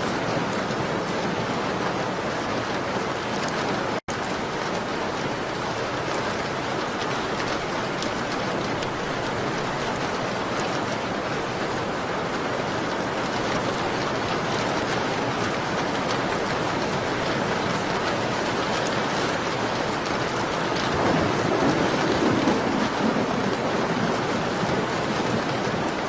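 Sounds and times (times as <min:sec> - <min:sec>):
steady rain on a window: 0:00.0 - 0:26.0.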